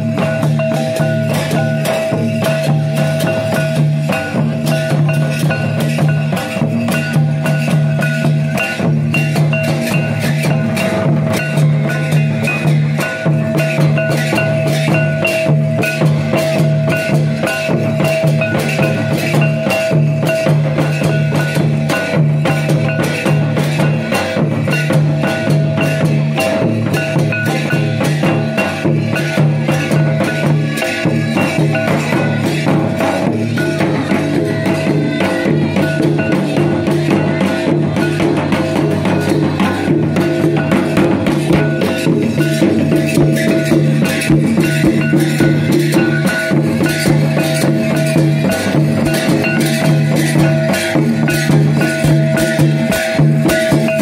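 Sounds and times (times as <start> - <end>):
hand drums beating fast rhythm: 0.0 - 54.0.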